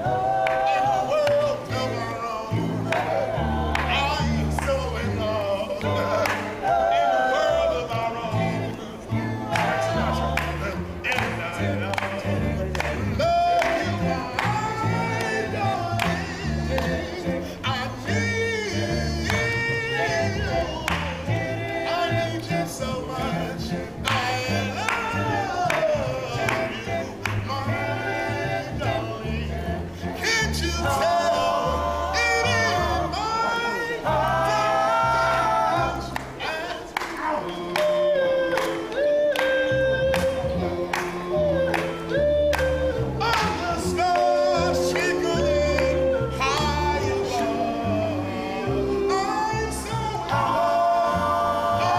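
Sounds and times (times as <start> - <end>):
male vocal group singing: 0.0 - 51.9
plucked double bass: 0.0 - 51.9.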